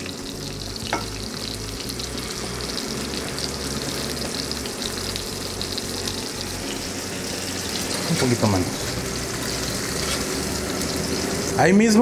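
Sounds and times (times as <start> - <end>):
food sizzling in a skillet: 0.0 - 12.0.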